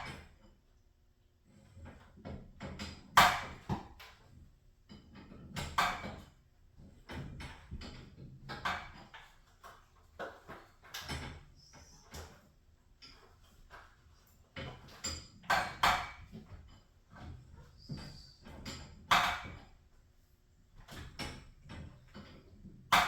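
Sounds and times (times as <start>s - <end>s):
tools and metal hardware clattering: 1.6s - 19.8s, 20.8s - 23.0s.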